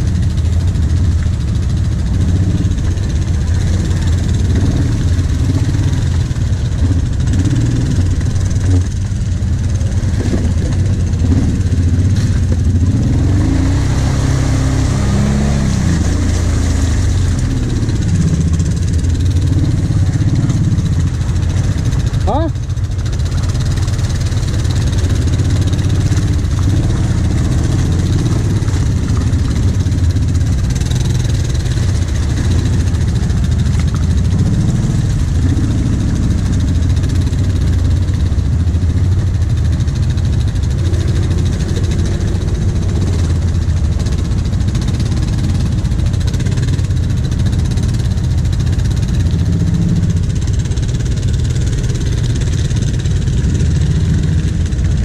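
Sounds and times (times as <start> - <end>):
quad engine running at low throttle: 0.0 - 55.0.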